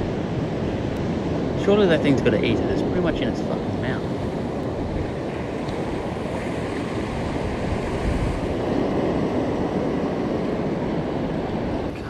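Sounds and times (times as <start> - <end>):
surf breaking on reef: 0.0 - 12.0
wind on microphone: 0.0 - 12.0.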